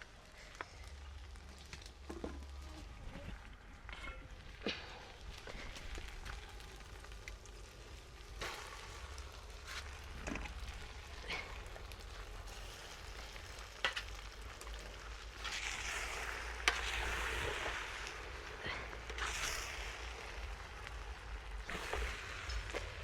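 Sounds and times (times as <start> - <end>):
food sizzling in a pot: 4.3 - 23.0.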